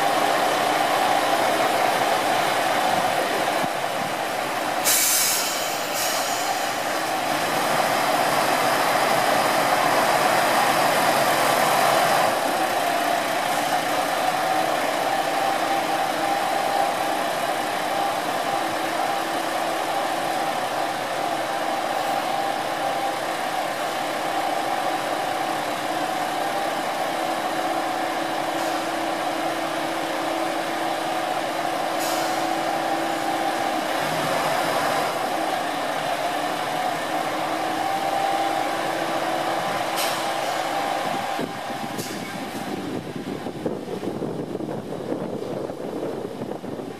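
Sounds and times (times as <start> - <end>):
diesel railcar engine idling: 0.0 - 46.9.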